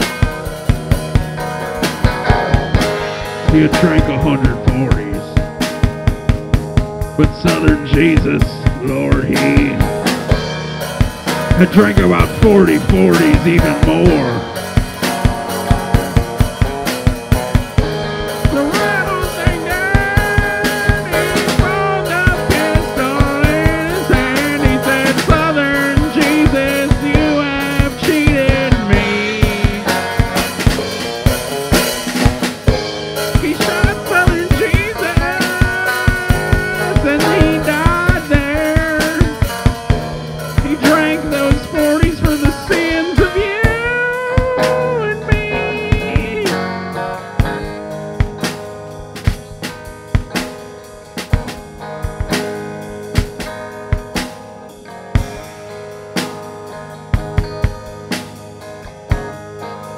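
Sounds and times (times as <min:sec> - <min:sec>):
drum kit beat: 0:00.0 - 0:59.9.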